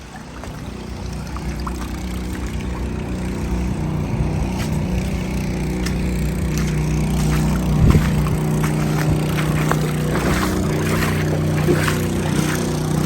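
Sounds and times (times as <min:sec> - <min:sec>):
water pumps droning: 0:00.0 - 0:13.0.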